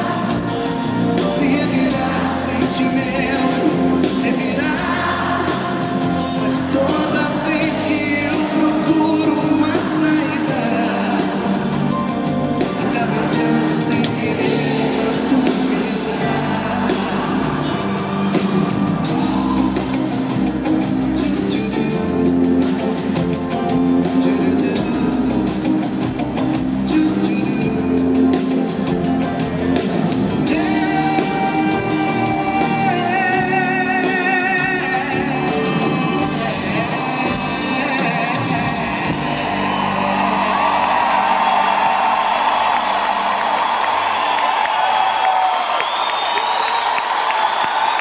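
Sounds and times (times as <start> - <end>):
drum kit beat: 0.0 - 43.8
pop-rock band playing: 0.0 - 48.0.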